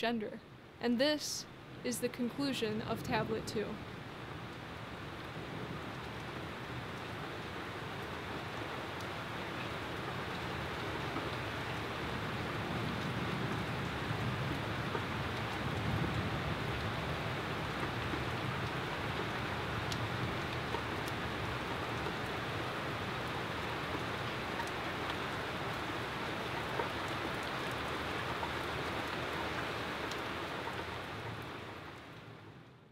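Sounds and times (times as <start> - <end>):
rain falling on foliage: 0.0 - 32.9.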